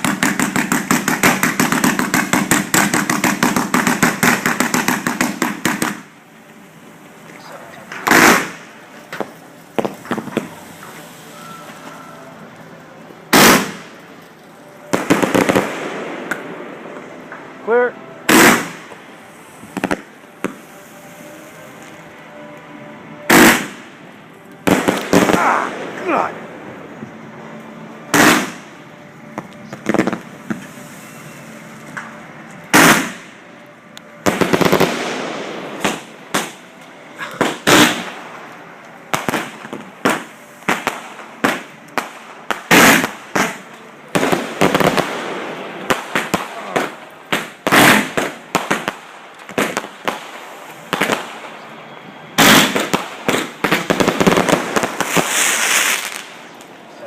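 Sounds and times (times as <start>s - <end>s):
fireworks bangs: 0.0s - 6.2s, 7.4s - 12.4s, 13.2s - 22.6s, 23.2s - 24.0s, 24.6s - 57.0s.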